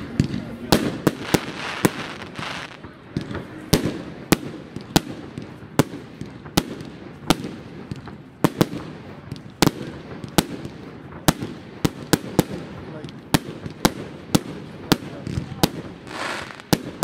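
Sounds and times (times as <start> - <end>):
firework bangs: 0.0 - 17.0.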